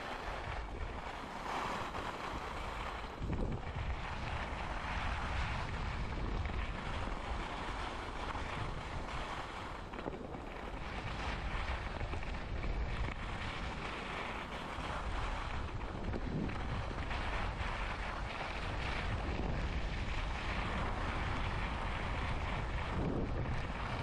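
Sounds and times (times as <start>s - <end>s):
skis scraping over snow: 0.0s - 24.0s
wind buffeting microphone: 0.0s - 24.0s.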